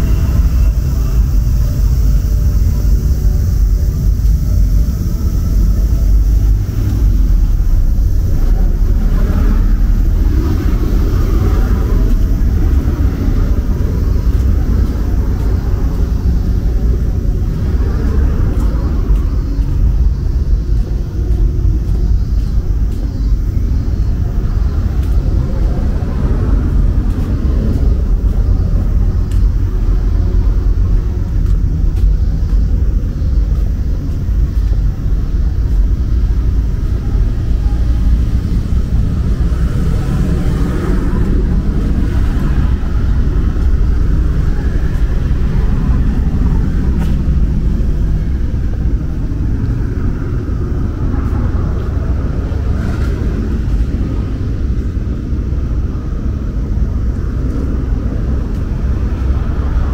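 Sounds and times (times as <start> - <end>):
city street traffic rumble: 0.0 - 59.9.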